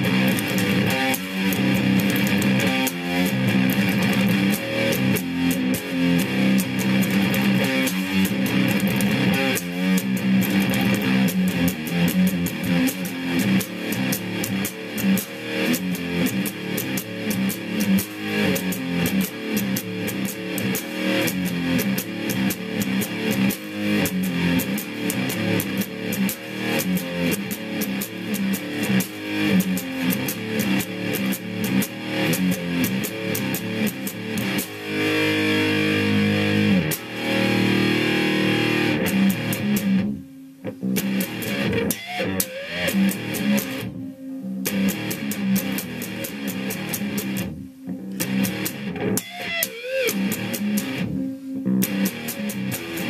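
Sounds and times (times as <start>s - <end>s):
electric guitar played fast: 0.0s - 53.0s.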